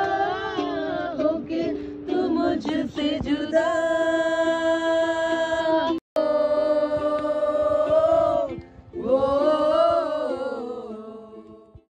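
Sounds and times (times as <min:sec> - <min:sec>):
group singing unaccompanied: 0:00.0 - 0:11.9.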